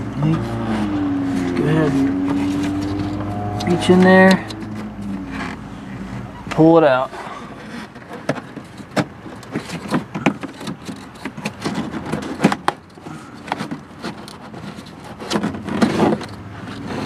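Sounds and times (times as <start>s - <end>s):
filter frame scraping plastic: 0.0s - 17.0s.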